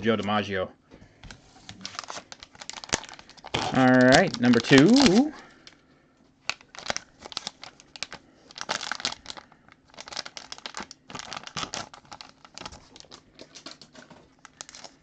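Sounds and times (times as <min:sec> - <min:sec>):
plastic packaging crinkling: 0:01.6 - 0:05.8, 0:06.4 - 0:15.0.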